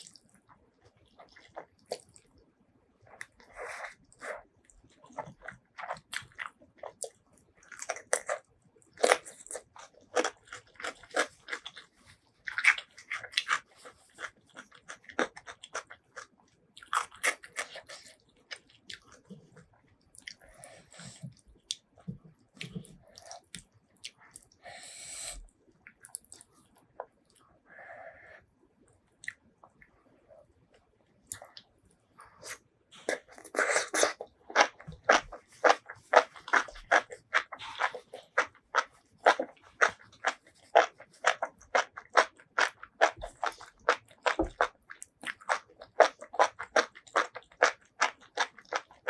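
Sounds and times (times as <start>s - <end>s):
wet chewing with crunching: 0.0s - 24.6s, 25.3s - 27.6s, 29.1s - 49.0s.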